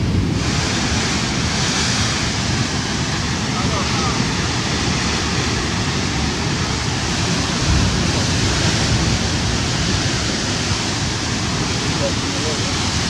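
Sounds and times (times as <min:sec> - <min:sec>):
sea surf washing against rocks: 0:00.0 - 0:13.0.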